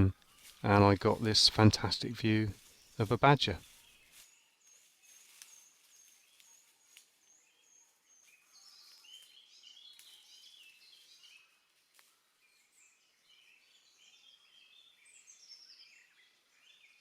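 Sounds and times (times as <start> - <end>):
warbling birdsong: 0.0 - 17.0.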